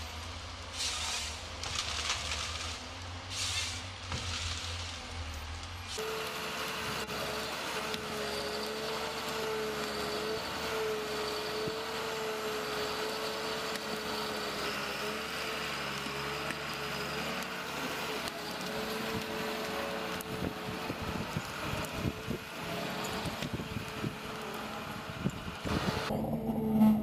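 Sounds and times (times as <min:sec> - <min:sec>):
heavy machine running: 0:00.8 - 0:27.0
constant whine: 0:01.6 - 0:27.0.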